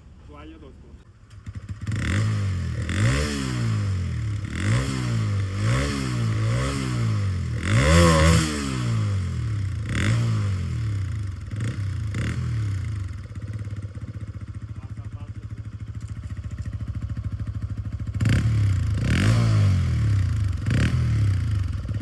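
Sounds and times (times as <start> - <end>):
motorcycle engine revving: 1.2 - 22.0.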